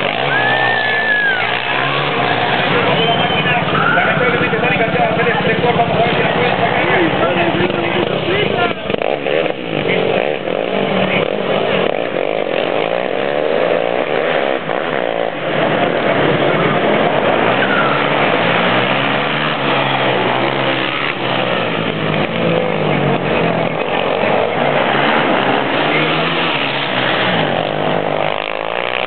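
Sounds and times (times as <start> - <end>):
atv engine revving: 0.0 - 29.0.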